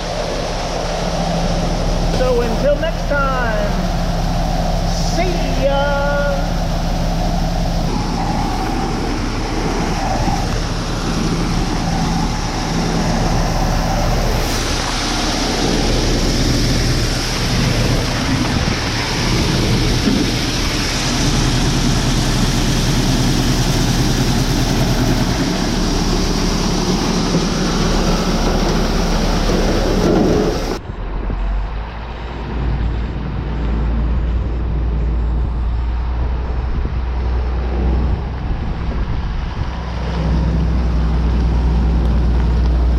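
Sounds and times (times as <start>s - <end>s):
large engine running: 0.0s - 42.9s
wind rumble on microphone: 0.0s - 42.9s.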